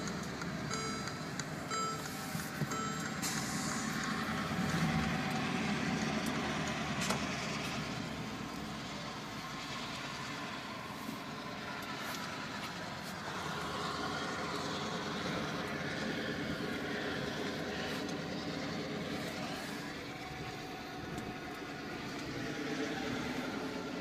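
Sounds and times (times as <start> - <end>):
car engine running: 0.0 - 24.0
road and tyre noise: 0.0 - 24.0.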